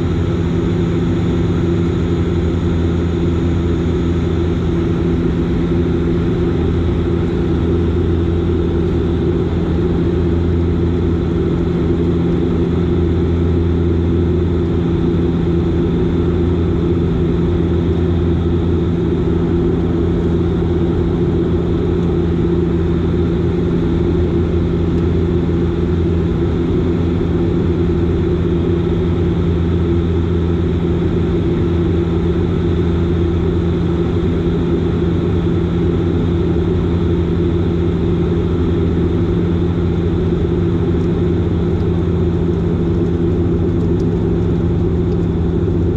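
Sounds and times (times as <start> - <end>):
turboprop aircraft cabin drone: 0.0 - 45.9.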